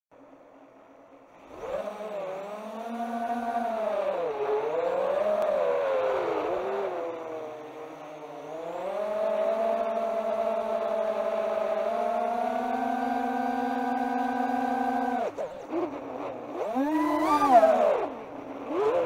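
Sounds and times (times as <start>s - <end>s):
quadcopter motors buzzing whine: 1.3s - 19.0s.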